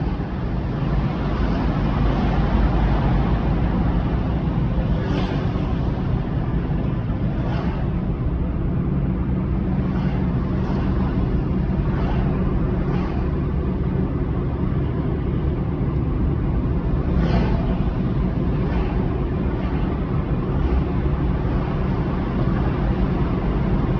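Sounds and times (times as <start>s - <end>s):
car engine and road rumble: 0.0s - 23.9s.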